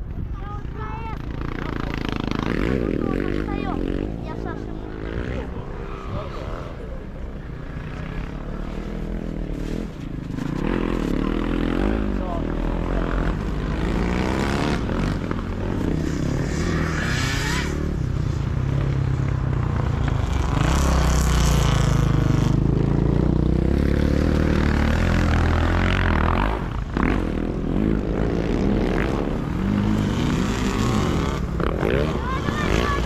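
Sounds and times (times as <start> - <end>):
motorcycle engines revving past: 0.0 - 33.0.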